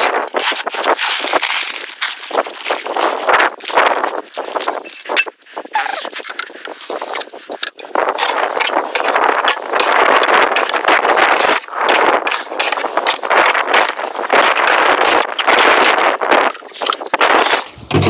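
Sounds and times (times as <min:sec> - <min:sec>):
gritty scraping of concrete mixing: 0:00.0 - 0:18.0.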